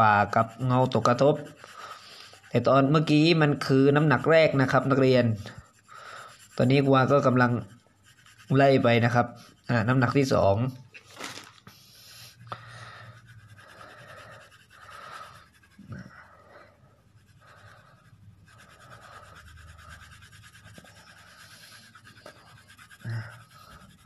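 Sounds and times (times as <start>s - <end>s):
pencil shading on paper: 0.0s - 10.6s, 11.7s - 24.0s.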